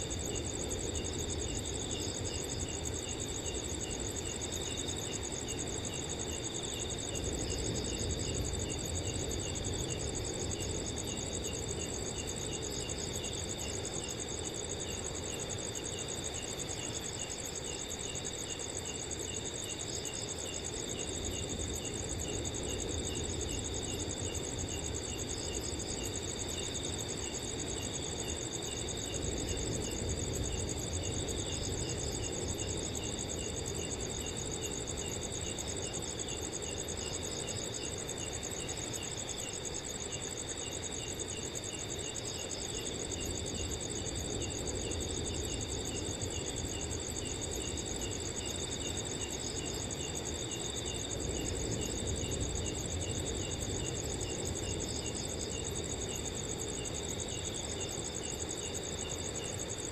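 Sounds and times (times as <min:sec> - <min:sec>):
crickets chirping and trilling: 0:00.0 - 0:59.9.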